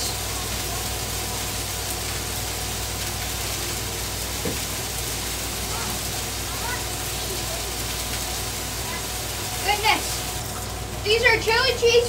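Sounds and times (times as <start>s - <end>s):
burgers sizzling on a griddle: 0.0s - 12.0s.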